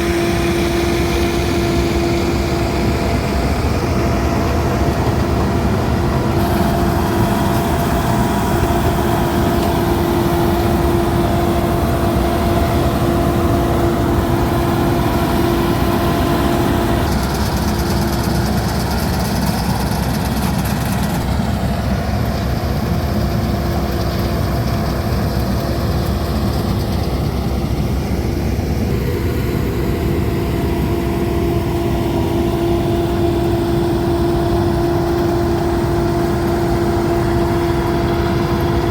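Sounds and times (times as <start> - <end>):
combine harvester engine drone: 0.0 - 38.9
steady whining tone: 0.0 - 38.9.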